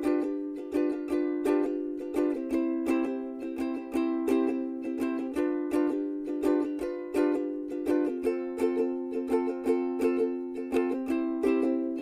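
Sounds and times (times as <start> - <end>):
plucked-string tune: 0.0 - 12.0.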